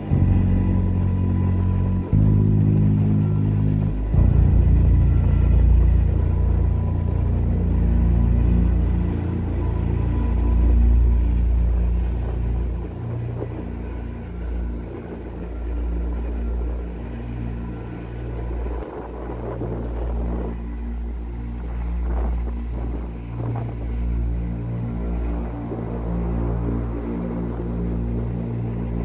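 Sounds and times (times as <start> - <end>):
ship engine rumble: 0.0 - 29.0
wind and water rushing: 0.0 - 29.0.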